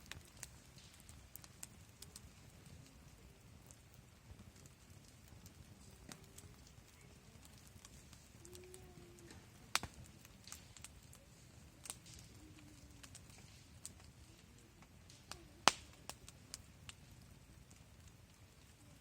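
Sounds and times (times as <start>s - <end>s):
burning wood popping: 0.0s - 19.0s
campfire crackling: 0.0s - 19.0s.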